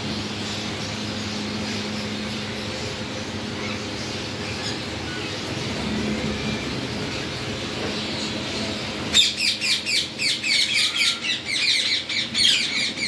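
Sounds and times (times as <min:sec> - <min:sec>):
steady mechanical hum: 0:00.0 - 0:13.0
parrots chirping: 0:00.4 - 0:13.0.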